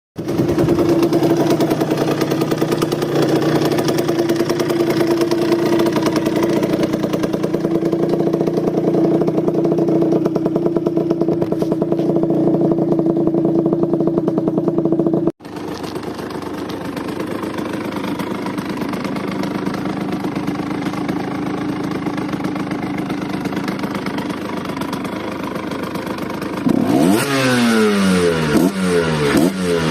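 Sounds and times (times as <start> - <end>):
motorcycle engine idling: 0.2 - 29.9
motorcycle engine revving: 0.2 - 29.9.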